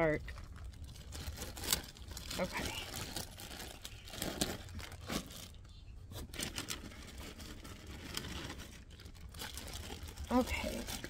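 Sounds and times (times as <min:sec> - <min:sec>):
low steady hum: 0:00.0 - 0:11.0
plastic bag rustling: 0:00.0 - 0:11.0.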